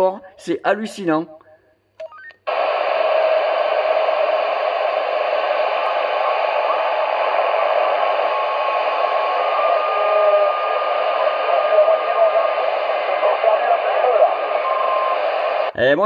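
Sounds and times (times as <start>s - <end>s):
radio static hiss: 2.5s - 15.8s.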